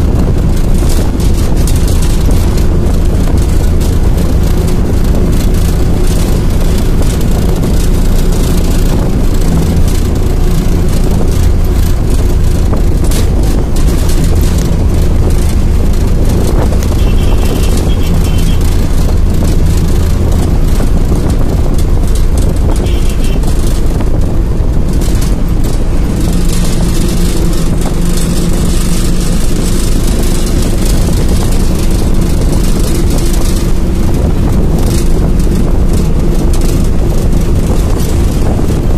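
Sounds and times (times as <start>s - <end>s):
vehicle engine and road noise: 0.0s - 38.9s
wind buffeting microphone: 0.0s - 38.9s.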